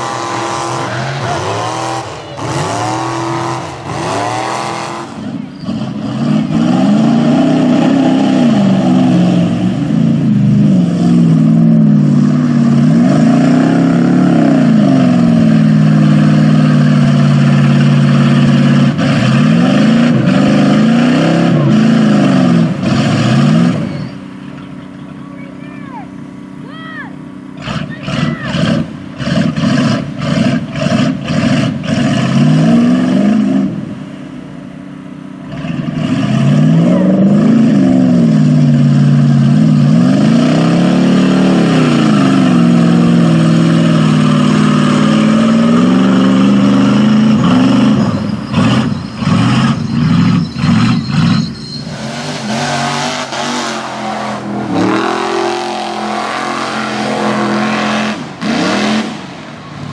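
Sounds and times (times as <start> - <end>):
truck engine revving hard: 0.0 - 25.7, 27.4 - 34.3, 35.3 - 59.9
second truck engine: 0.0 - 59.9.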